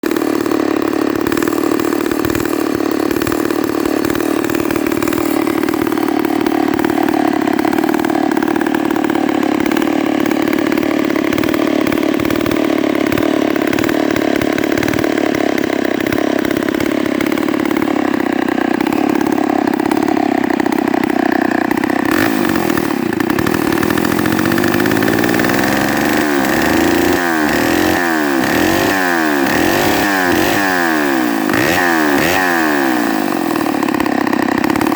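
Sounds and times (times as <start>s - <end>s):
chainsaw engine idling: 0.0s - 34.9s.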